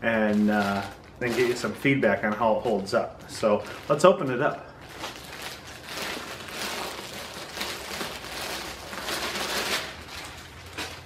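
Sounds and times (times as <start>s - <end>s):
plastic bag crinkling and rustling: 0.0s - 11.0s.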